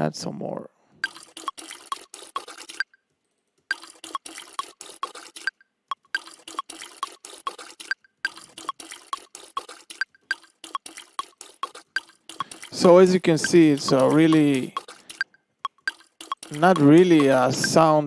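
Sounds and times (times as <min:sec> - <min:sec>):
rapid watery dripping rhythm: 0:01.0 - 0:03.0, 0:03.7 - 0:18.0.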